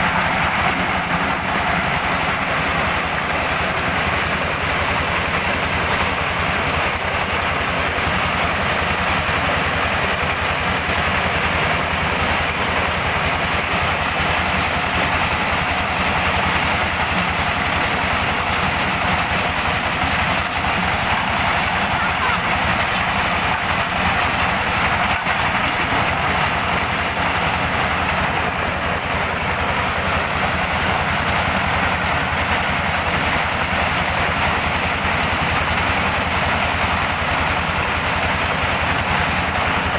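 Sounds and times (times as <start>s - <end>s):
corn sheller engine and drum: 0.0s - 39.9s.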